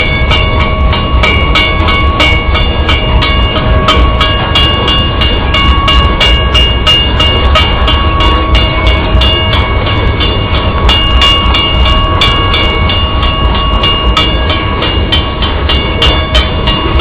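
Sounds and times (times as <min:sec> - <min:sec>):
high ringing tones: 0:00.0 - 0:17.0
train cars rumbling: 0:00.0 - 0:17.0.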